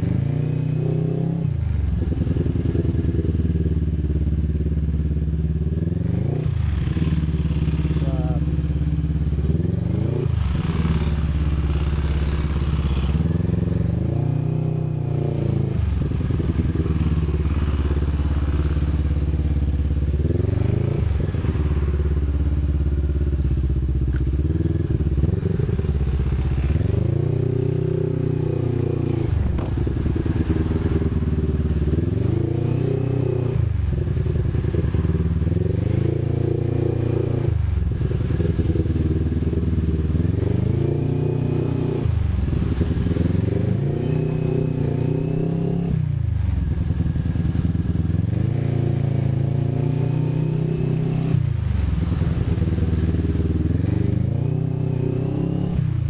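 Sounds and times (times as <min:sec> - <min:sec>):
motorcycle engine running: 0:01.8 - 0:43.6, 0:44.4 - 0:56.0.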